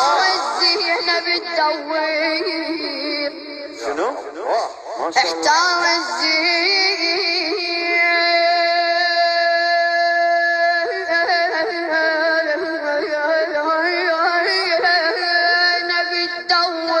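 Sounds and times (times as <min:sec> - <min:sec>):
person chanting unaccompanied: 0:00.0 - 0:17.0.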